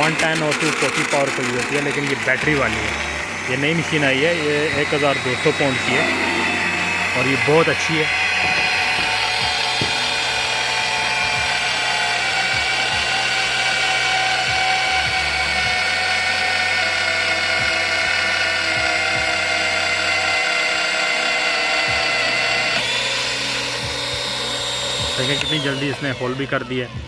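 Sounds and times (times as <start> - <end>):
magnetic drill cutting steel: 0.0 - 27.0.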